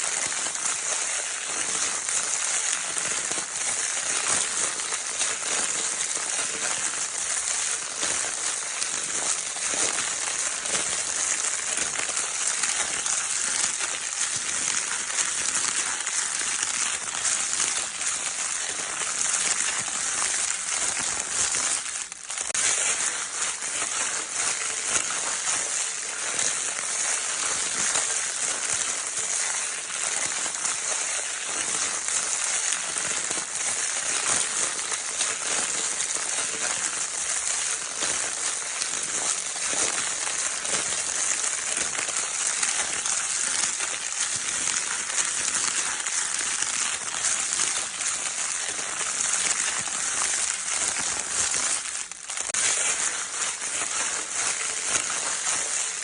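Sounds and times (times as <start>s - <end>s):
crinkle paper crumpling: 0.0s - 56.0s.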